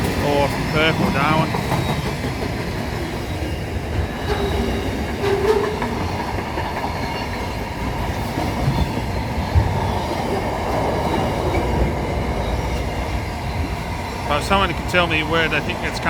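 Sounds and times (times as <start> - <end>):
freight train rumble: 0.0 - 16.0
wheels clattering over rail joints: 0.0 - 16.0.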